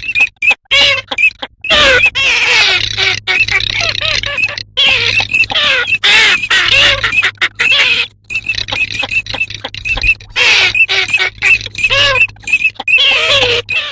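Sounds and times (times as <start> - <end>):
ducks calling: 0.7 - 13.9.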